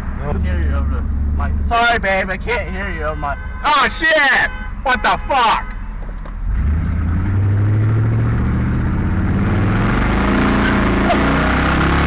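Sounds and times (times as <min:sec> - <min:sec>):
truck exhaust drone accelerating: 0:00.0 - 0:03.6, 0:05.7 - 0:12.0.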